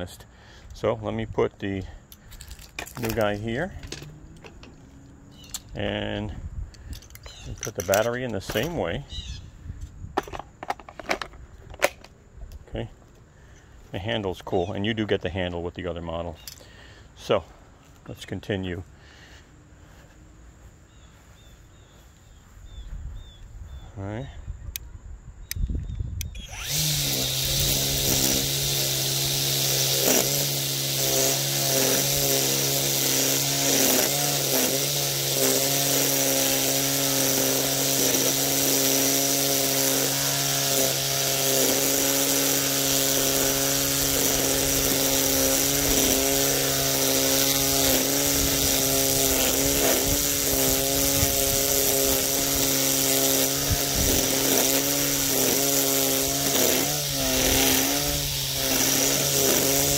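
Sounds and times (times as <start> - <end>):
string trimmer cutting grass: 0.0 - 22.1, 26.2 - 59.9.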